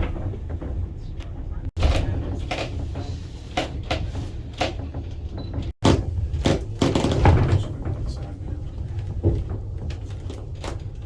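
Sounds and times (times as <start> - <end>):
clunks and knocks: 0.0 - 11.0
railway car rumbling up track: 0.0 - 11.0.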